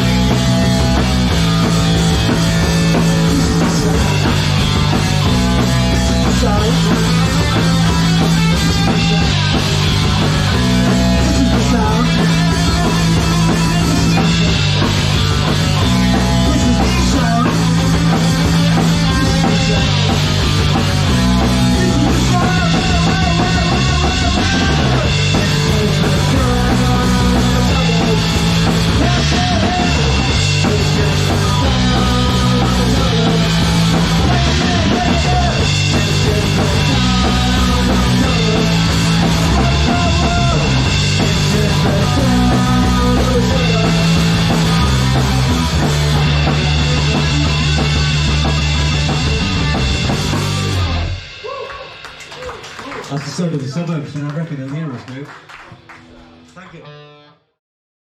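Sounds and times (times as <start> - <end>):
electric guitar: 0.0 - 53.2, 55.5 - 57.6
drum kit: 0.0 - 53.8
bass guitar: 0.0 - 53.9, 55.6 - 57.6.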